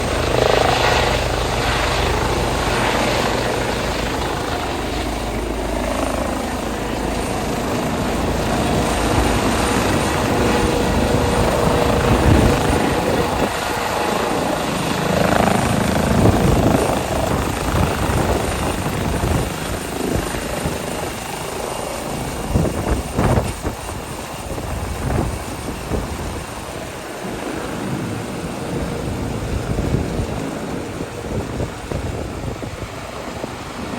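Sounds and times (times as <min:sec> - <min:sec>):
helicopter taking off: 0:00.0 - 0:33.9.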